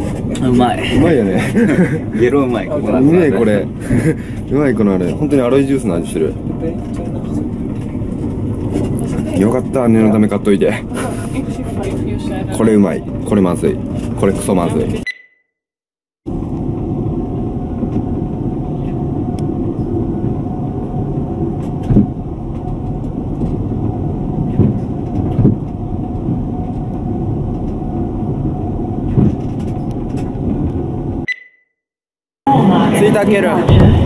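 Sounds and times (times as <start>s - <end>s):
train rumbling inside passenger car: 0.0s - 15.0s, 16.3s - 31.3s, 32.5s - 34.0s.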